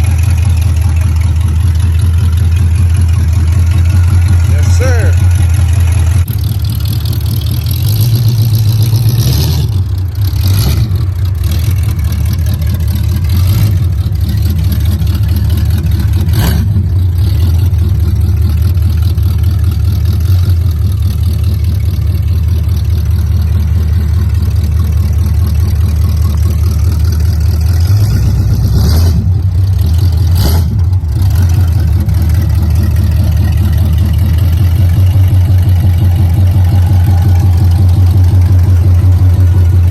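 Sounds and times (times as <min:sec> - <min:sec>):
loud open exhaust engine pulse: 0:00.0 - 0:39.9.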